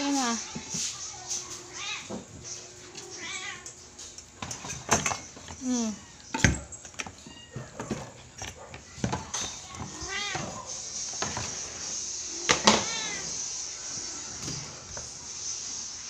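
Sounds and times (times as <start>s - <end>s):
cats meowing: 0.2s - 15.2s.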